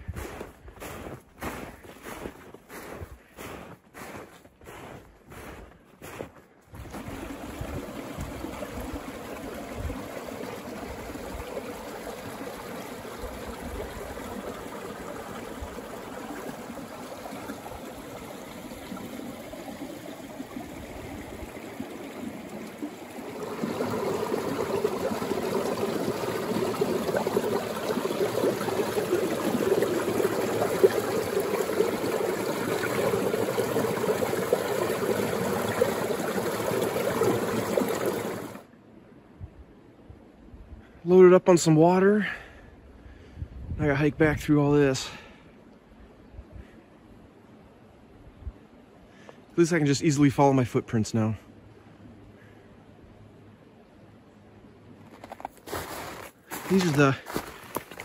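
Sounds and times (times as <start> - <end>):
creek water flowing: 0.0 - 38.7, 48.7 - 58.0.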